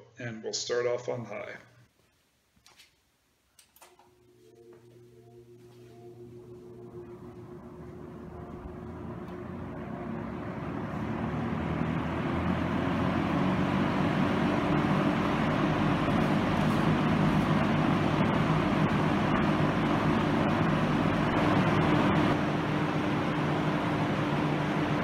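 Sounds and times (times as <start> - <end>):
box fan running: 3.6 - 25.0.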